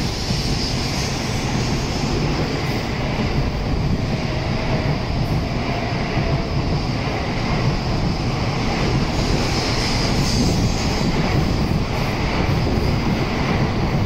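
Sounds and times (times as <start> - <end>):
train passing on rails: 0.0 - 14.0.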